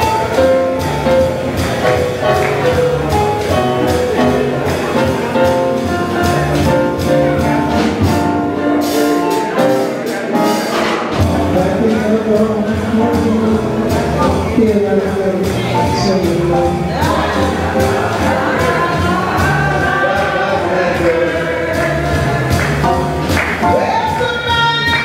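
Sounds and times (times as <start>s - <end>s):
live jazz band playing: 0.0s - 25.0s
walking bass: 0.0s - 25.0s.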